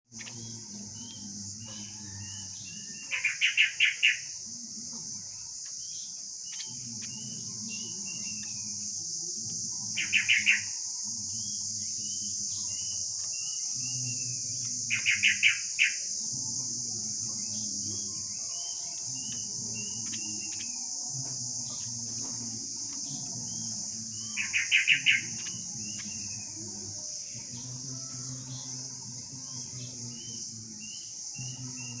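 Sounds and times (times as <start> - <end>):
bird chirping: 0.1 - 4.4, 5.4 - 16.1, 17.2 - 32.0
high insect drone hiss: 0.1 - 32.0.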